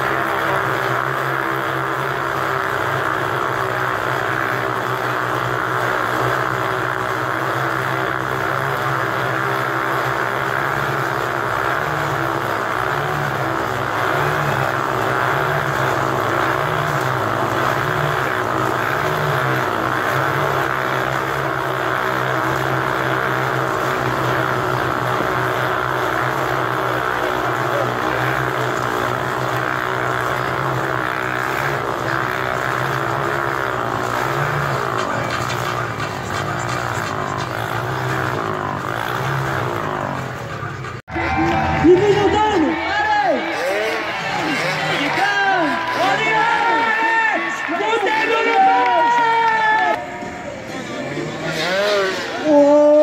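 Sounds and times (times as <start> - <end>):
motorcycle engines droning: 0.0 - 53.0.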